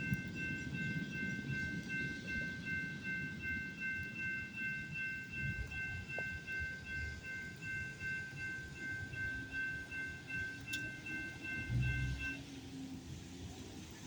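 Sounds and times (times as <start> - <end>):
freight train rumbling: 0.0 - 14.0
railroad crossing bell ringing: 0.0 - 14.0.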